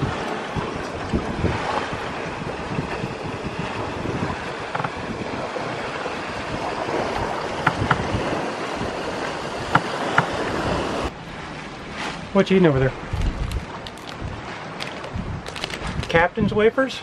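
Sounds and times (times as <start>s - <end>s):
water washing along hull: 0.0s - 16.7s
wind on microphone: 0.0s - 16.7s.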